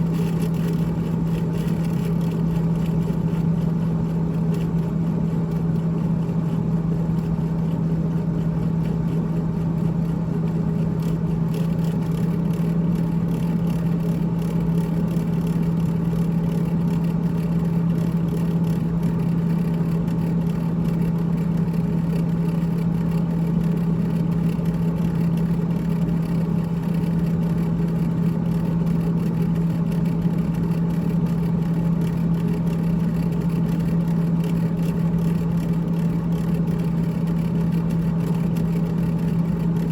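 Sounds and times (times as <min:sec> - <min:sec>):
refrigerator humming: 0:00.0 - 0:39.9.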